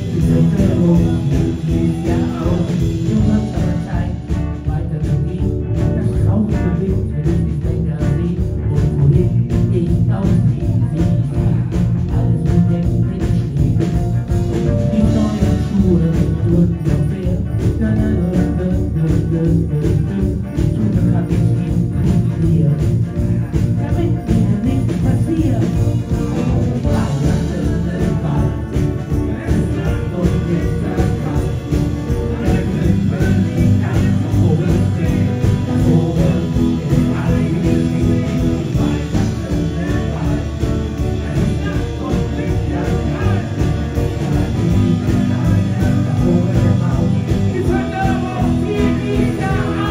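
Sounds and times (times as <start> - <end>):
live band playing: 0.0 - 49.9.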